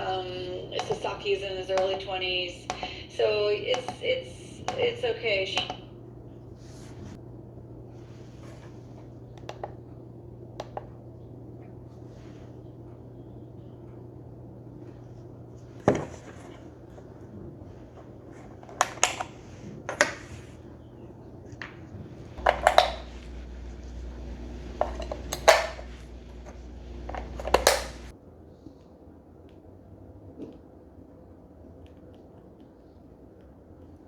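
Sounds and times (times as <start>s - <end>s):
steady low hum: 0.0s - 28.1s.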